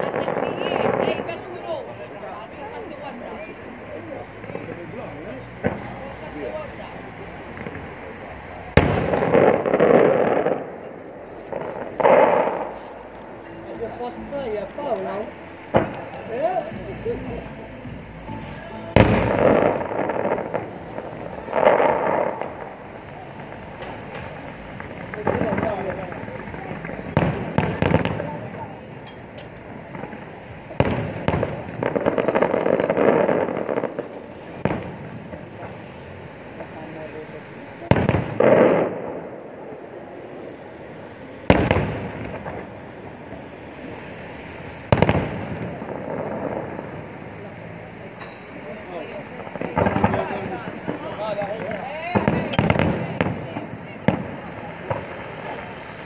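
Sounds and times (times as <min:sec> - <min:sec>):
firework crackle: 0:00.0 - 0:56.0
firework bang: 0:05.6 - 0:06.7, 0:07.4 - 0:47.5, 0:48.2 - 0:56.0.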